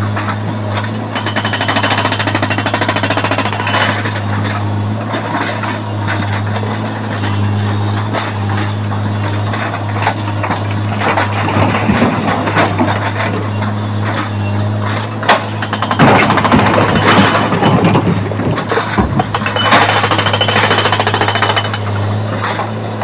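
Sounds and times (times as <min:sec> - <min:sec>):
excavator engine drone: 0:00.0 - 0:23.0
hydraulic breaker hammering rock: 0:00.1 - 0:07.4, 0:08.0 - 0:23.0.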